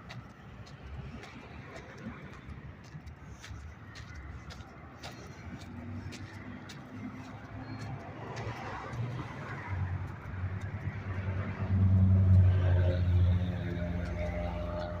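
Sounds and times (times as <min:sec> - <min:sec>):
steady traffic noise: 0:00.0 - 0:15.0
vehicle engine rumble passing: 0:00.0 - 0:15.0.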